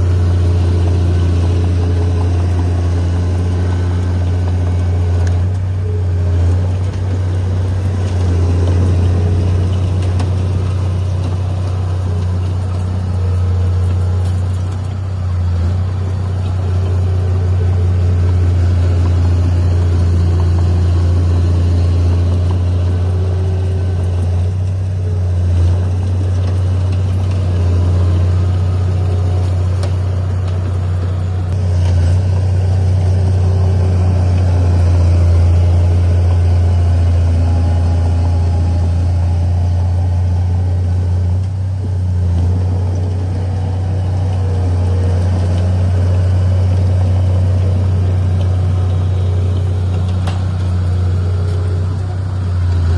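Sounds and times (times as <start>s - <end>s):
heavy diesel engine droning: 0.0s - 52.9s.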